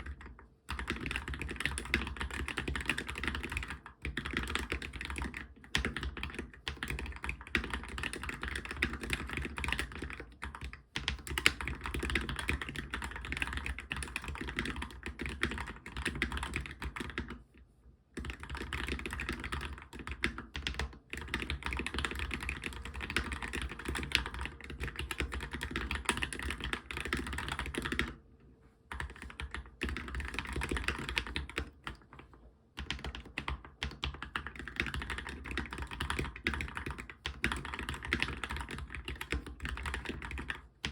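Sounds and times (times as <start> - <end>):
mechanical keyboard typing: 0.0 - 17.4, 18.2 - 28.2, 28.9 - 32.2, 32.8 - 40.9.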